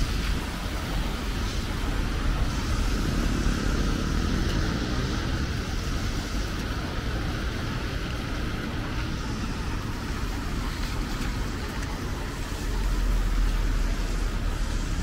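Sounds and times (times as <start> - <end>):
road traffic on wet street: 0.0 - 15.0.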